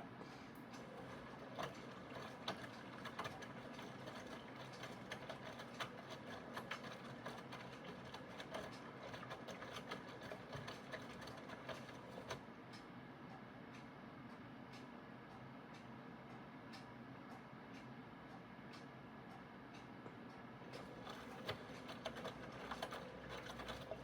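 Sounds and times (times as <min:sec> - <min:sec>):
washing machine humming: 0:00.0 - 0:18.2, 0:18.9 - 0:24.0.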